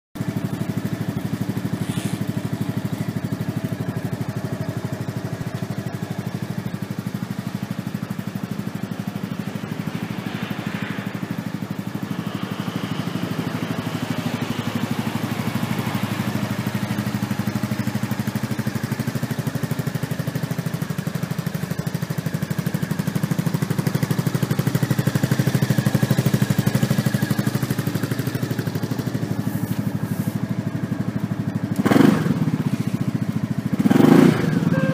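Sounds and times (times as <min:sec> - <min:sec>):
scooter engine idling: 0:00.2 - 0:34.9.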